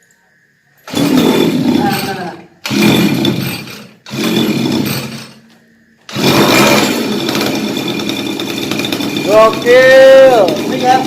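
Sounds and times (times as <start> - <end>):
small engine revving: 0.9 - 5.3, 6.1 - 11.0.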